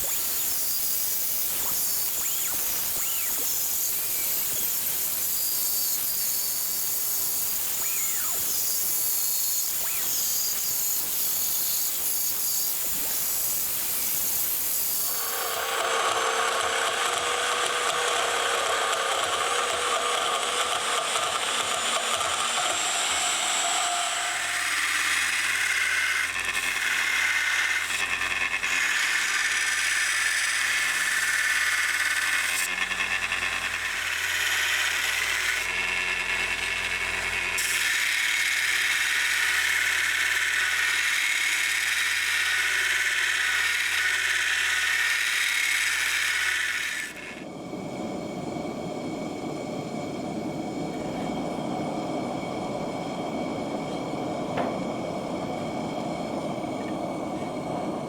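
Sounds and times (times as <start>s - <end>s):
power tool grinding steel: 0.0s - 47.5s.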